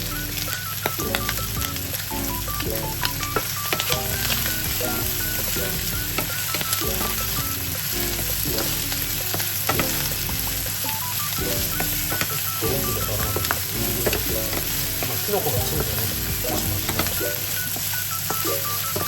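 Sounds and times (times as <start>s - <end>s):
background music: 0.0s - 19.0s
food sizzling in a frying pan: 0.0s - 19.0s
utensil tapping a pan: 2.7s - 19.0s.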